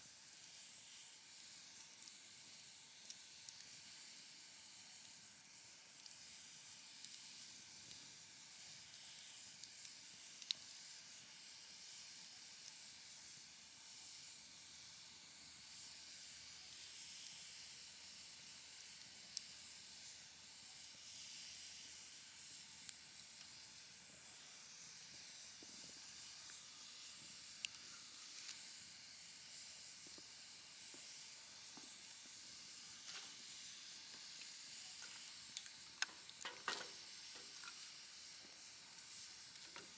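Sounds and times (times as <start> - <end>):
wood fire hissing and popping: 0.0 - 39.9.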